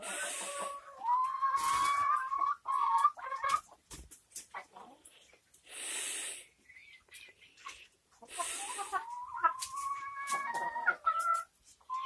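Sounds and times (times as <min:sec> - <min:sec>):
chickens clucking: 0:00.0 - 0:05.6, 0:06.4 - 0:12.0.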